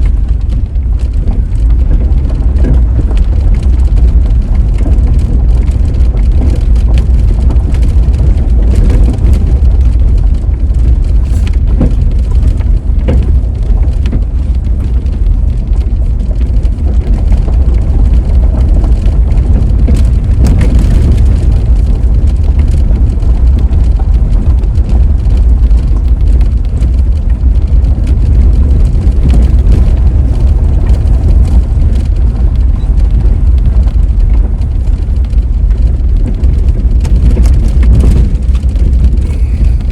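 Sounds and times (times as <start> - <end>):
vehicle driving rumble: 0.0 - 39.9.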